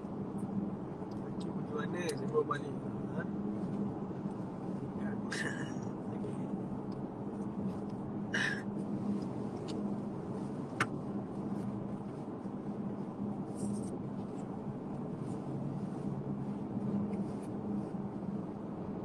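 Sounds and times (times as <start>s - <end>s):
car cabin road hum: 0.0s - 19.0s.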